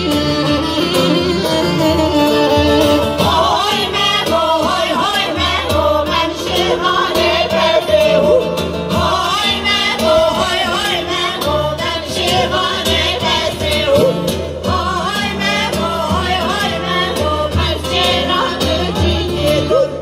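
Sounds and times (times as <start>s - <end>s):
acoustic guitar: 0.0s - 20.0s
plucked lute: 0.0s - 20.0s
women singing together: 3.1s - 20.0s.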